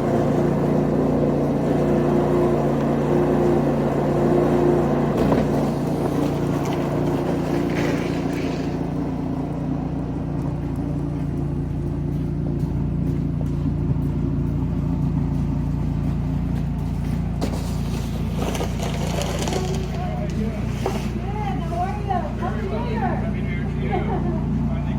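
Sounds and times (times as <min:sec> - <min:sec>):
snow-clearing machine engine running: 0:00.0 - 0:24.9.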